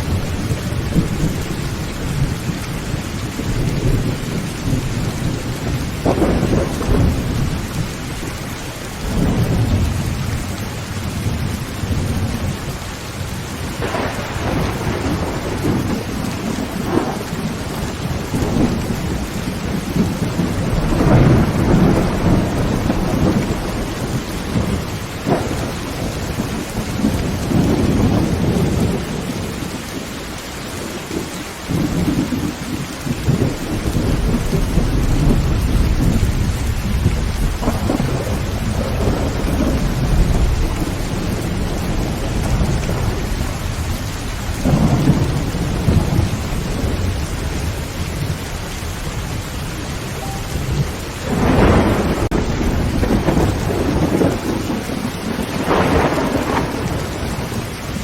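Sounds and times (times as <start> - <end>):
thunder rumbling: 0.0 - 30.0, 30.8 - 58.0
heavy rain on a tin roof: 0.0 - 58.0.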